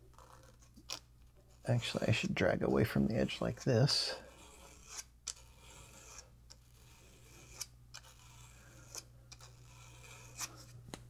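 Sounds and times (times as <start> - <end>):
cable scratching on sandpaper: 1.6 - 10.7.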